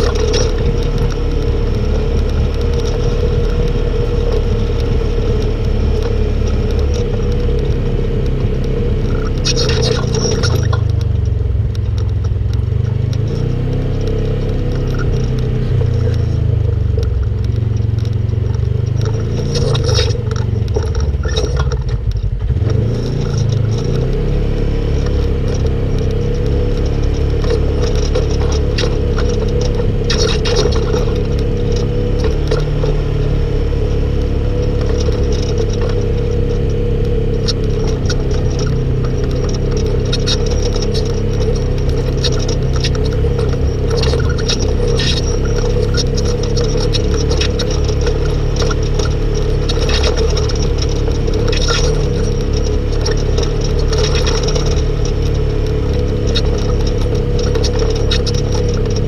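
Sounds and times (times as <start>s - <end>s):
rattles and clicks: 0.0s - 59.0s
side-by-side engine running: 0.0s - 59.0s.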